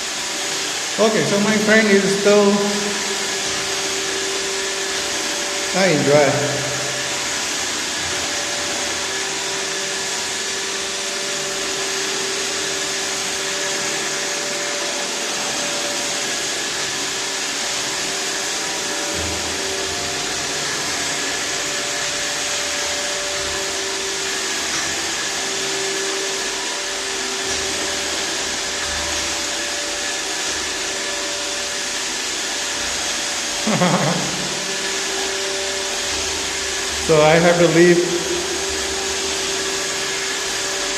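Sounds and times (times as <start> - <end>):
robot vacuum humming: 0.0 - 40.9.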